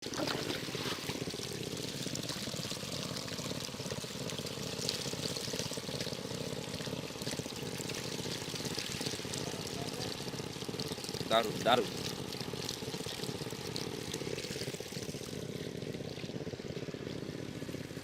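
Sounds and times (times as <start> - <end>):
water pouring: 0.0 - 18.0.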